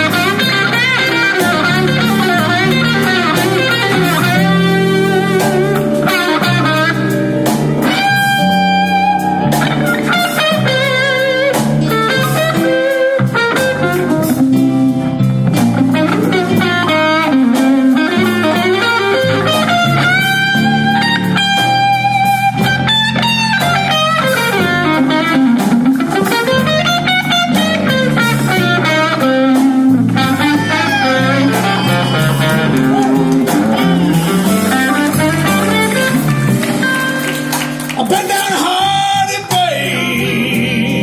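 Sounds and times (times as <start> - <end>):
electric guitar bent sliding notes: 0.0 - 38.0
live blues band playing: 0.0 - 41.0.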